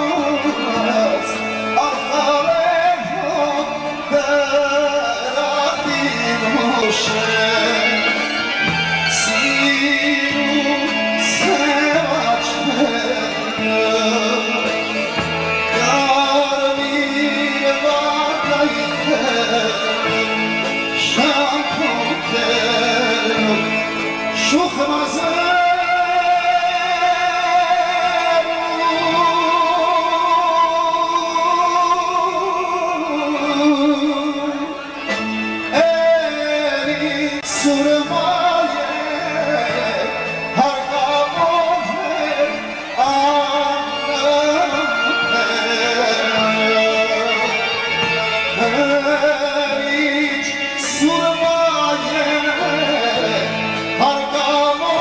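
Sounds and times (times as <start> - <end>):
man singing into microphone: 0.0 - 55.0
small band with drums: 0.0 - 55.0.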